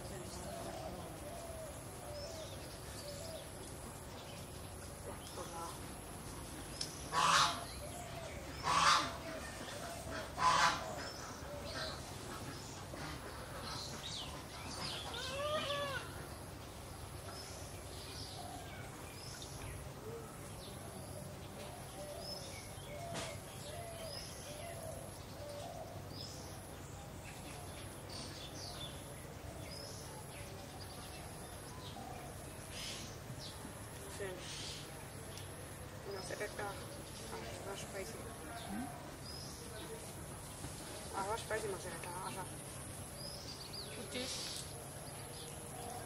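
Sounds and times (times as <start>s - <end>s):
wild birds chirping: 0.0s - 46.0s.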